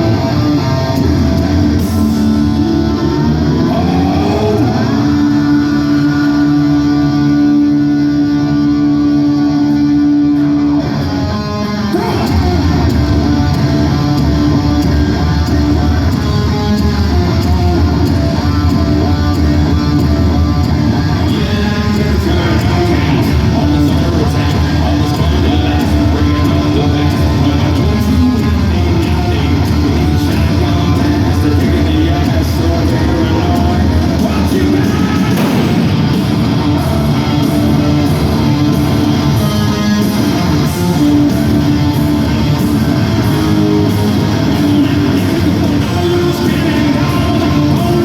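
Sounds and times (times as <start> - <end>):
distorted electric guitars: 0.0 - 48.0
hard rock band playing live: 0.0 - 48.0.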